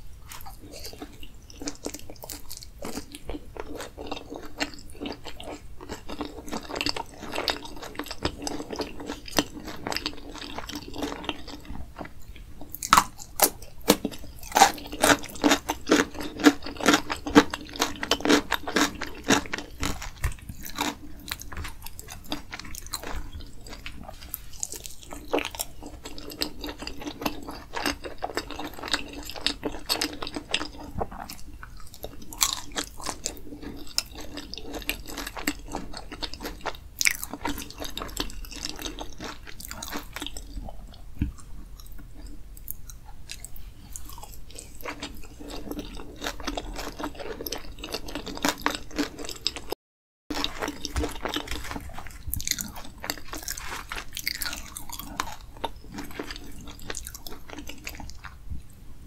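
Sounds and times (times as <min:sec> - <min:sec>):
wet chewing with crunches: 0:00.2 - 0:58.7.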